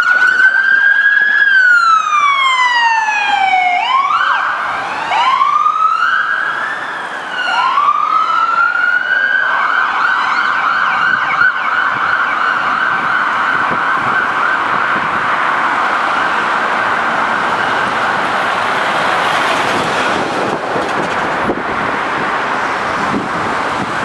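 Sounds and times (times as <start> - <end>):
second siren sweeps: 0.0 - 19.6
ambulance siren wailing: 0.0 - 24.0.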